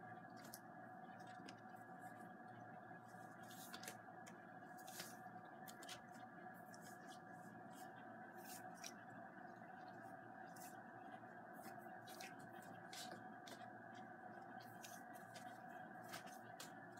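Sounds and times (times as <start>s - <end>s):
quiet room hum: 0.0s - 16.9s.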